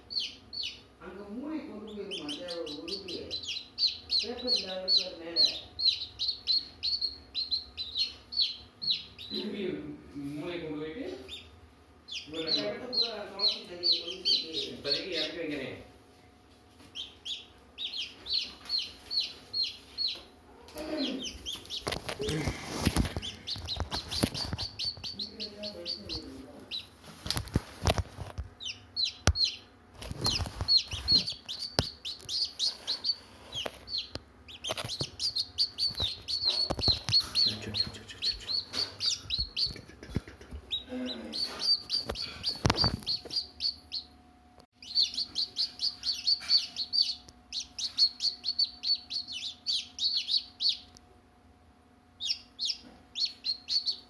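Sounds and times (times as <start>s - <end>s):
baby chicks peeping: 0.0s - 15.8s, 16.6s - 51.2s, 52.1s - 54.0s.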